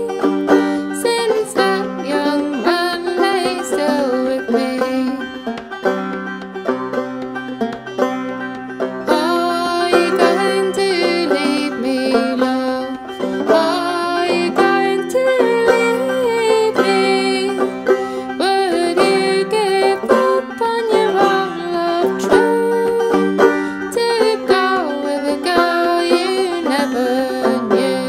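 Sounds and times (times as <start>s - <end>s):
banjo picking: 0.0s - 28.0s
sliding held melody notes: 0.0s - 28.0s.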